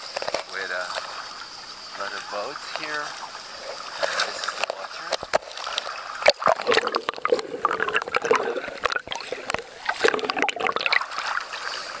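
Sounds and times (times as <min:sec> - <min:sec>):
sea water splashing and lapping: 0:00.0 - 0:12.0.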